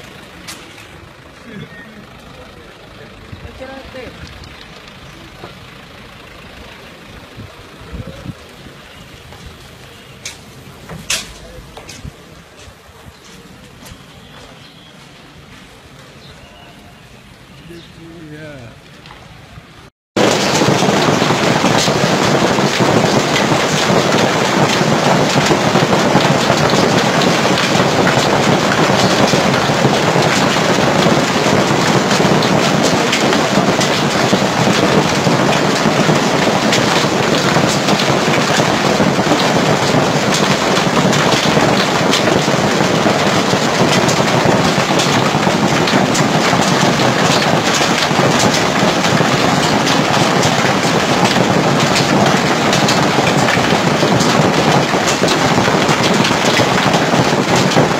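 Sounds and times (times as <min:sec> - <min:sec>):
hail and rain on street and cars: 0:00.0 - 0:14.4, 0:20.2 - 0:57.9.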